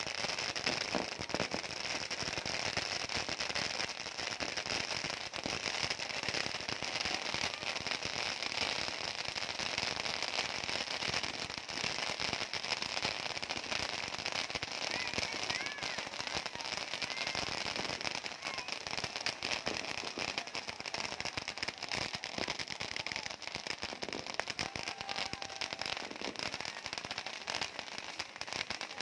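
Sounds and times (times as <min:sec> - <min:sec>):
fireworks crackling and popping: 0:00.0 - 0:29.0.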